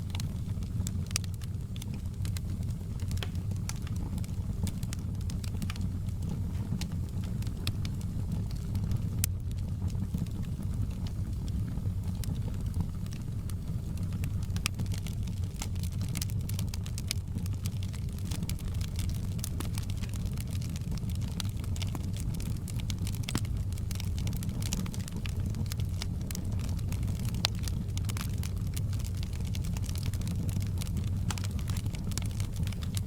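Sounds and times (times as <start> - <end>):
burning wood crackling and popping: 0.0 - 33.0
campfire rumble: 0.0 - 33.0.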